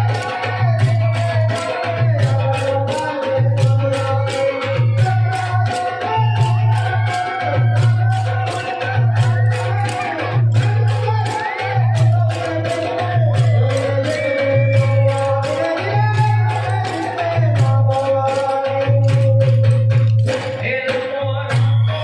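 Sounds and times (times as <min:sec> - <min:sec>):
hand drums and percussion: 0:00.0 - 0:22.0
person singing a melody: 0:00.0 - 0:22.0.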